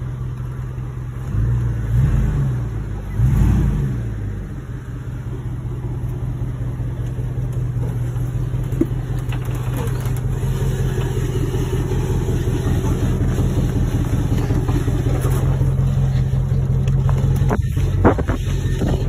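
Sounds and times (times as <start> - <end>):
truck engine running at low revs: 0.0 - 19.0.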